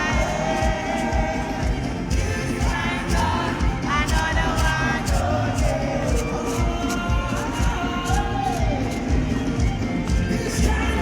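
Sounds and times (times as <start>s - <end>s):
band with steady drum beat: 0.0s - 11.0s
voices singing gospel: 0.0s - 11.0s.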